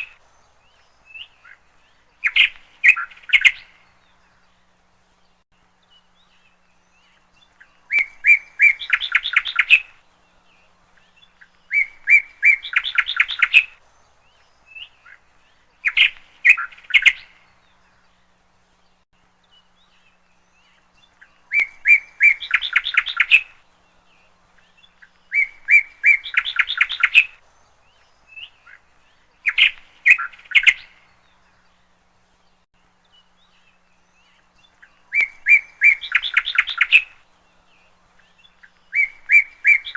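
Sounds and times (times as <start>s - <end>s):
songbird singing with trills: 0.0s - 39.9s.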